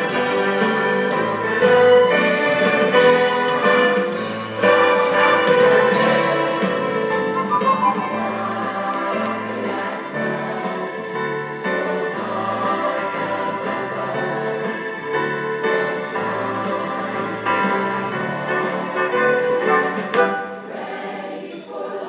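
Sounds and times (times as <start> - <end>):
mixed choir singing in harmony: 0.0 - 22.0.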